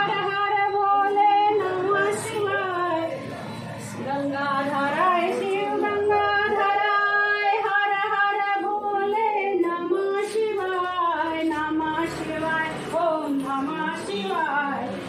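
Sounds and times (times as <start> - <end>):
woman singing: 0.0 - 3.1, 4.0 - 14.9.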